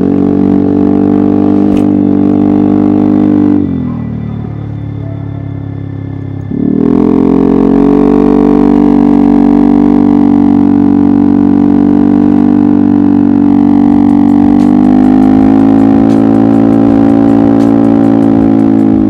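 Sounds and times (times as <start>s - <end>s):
scooter engine at high revs: 0.0s - 19.0s.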